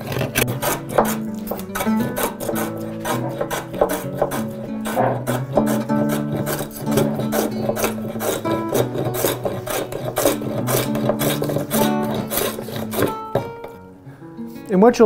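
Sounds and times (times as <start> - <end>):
hand plane rasping across wood: 0.0 - 13.8
acoustic guitar music: 0.0 - 15.0.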